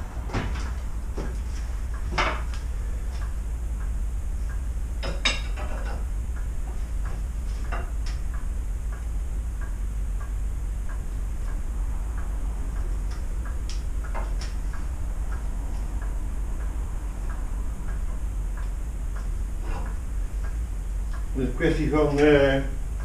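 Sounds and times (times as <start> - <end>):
steady low hum: 0.0 - 23.0
faint regular ticking: 0.7 - 23.0.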